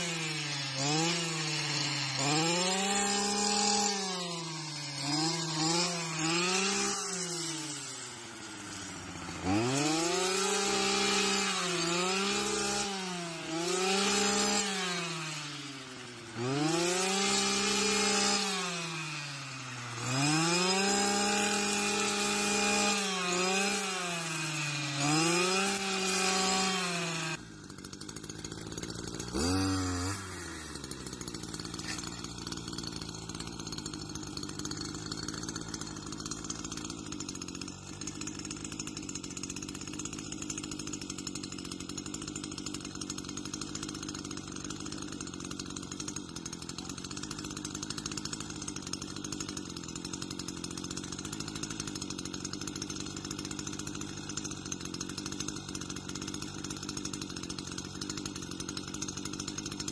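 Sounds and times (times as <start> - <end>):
brush cutter engine revving: 0.0 - 59.9.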